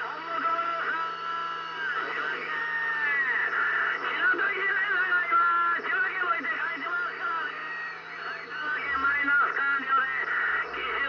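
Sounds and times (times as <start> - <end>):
garbled distant radio voices: 0.0 - 11.0
radio hiss and static: 0.0 - 11.0.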